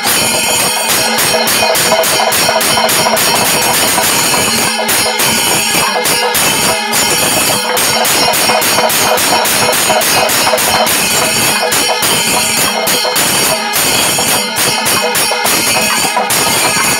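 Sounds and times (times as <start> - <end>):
barrel drums beaten rhythmically: 0.0 - 16.9
small hand cymbals clashing: 0.0 - 16.9.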